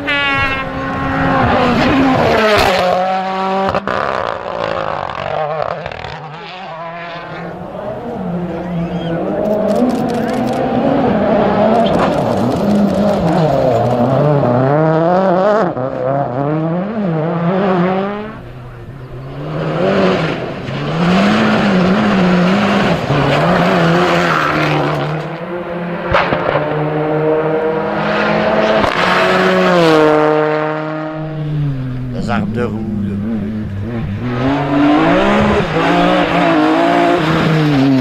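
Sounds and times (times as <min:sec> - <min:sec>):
rally car engines revving: 0:00.0 - 0:38.0.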